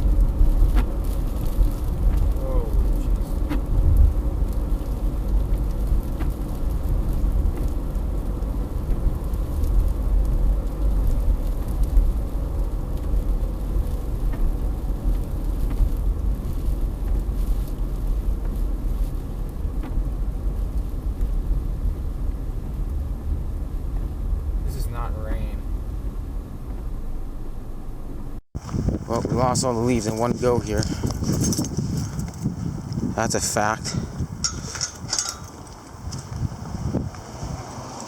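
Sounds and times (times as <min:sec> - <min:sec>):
wind gusts buffeting microphone: 0:00.0 - 0:27.2, 0:28.6 - 0:38.0.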